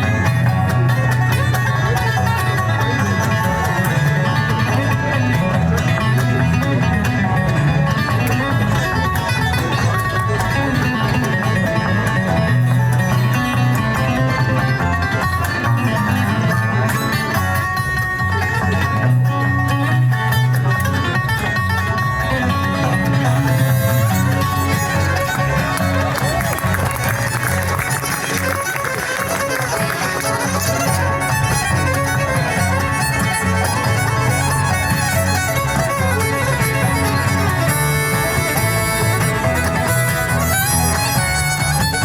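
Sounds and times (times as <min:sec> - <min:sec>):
bluegrass string band music: 0:00.0 - 0:42.0.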